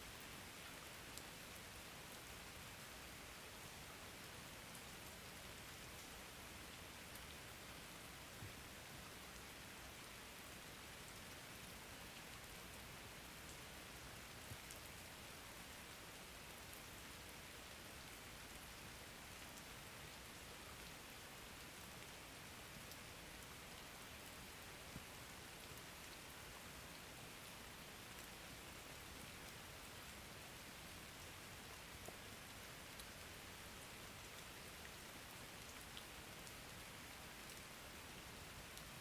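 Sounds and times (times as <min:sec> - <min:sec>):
rain falling: 0:00.1 - 0:39.0.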